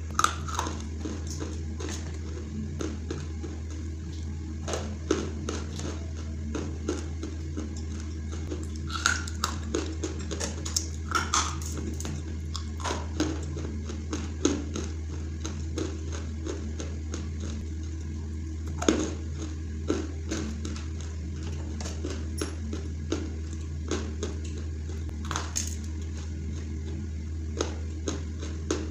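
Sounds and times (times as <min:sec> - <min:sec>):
low hum: 0:00.0 - 0:28.9
chewing clay crunches: 0:00.1 - 0:28.9.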